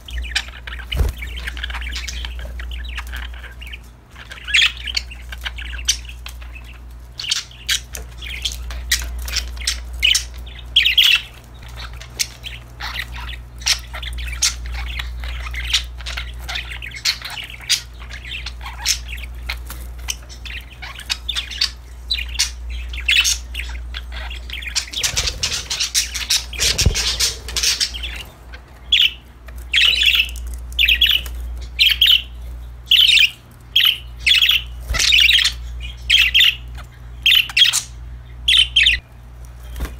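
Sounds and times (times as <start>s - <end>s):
budgerigars chirping and squawking: 0.0s - 39.9s.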